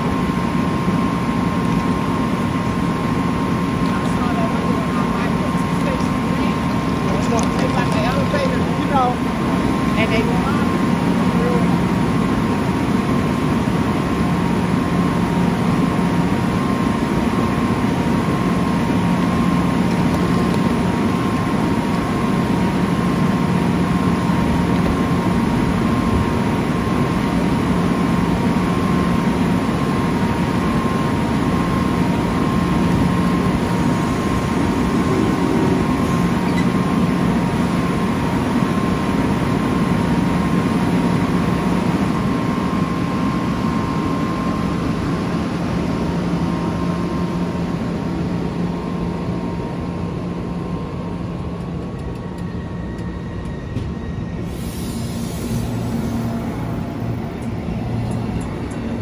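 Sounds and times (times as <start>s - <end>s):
train humming: 0.0s - 59.0s.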